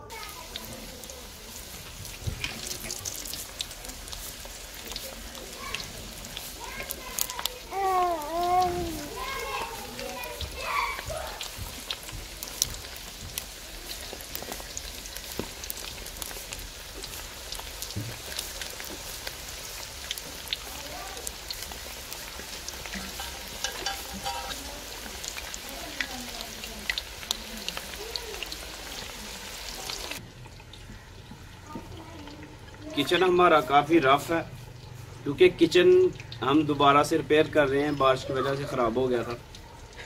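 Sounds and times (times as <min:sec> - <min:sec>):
chicken deep-frying in hot oil: 0:00.0 - 0:40.0.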